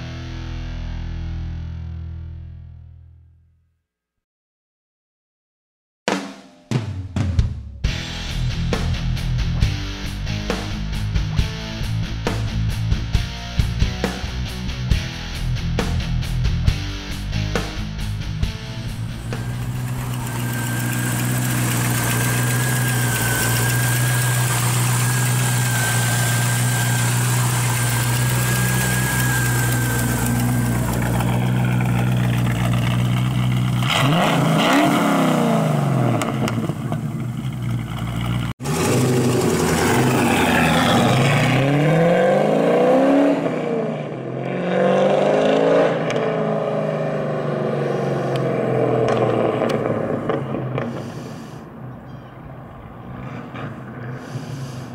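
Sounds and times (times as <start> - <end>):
car engine idling and revving: 8.3 - 54.9.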